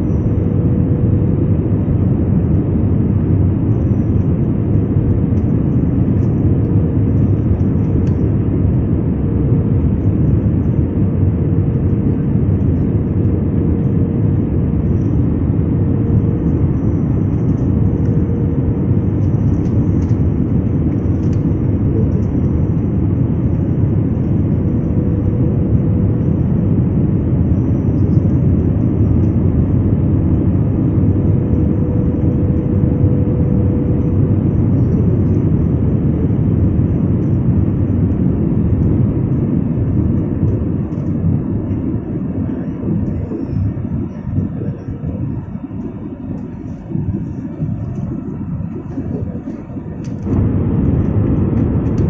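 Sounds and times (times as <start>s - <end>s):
faint steady hum: 0.0s - 52.0s
jet cabin engine rumble: 0.0s - 52.0s.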